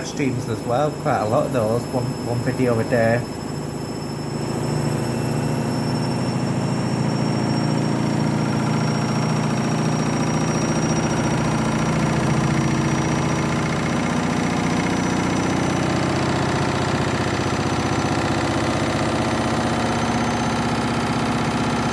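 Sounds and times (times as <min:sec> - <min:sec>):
washing machine spinning: 0:00.0 - 0:21.9.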